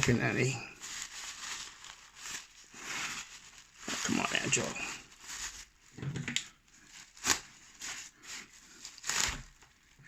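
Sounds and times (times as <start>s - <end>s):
packaging crinkling: 0.0s - 10.0s
packaging ripping: 0.0s - 10.0s.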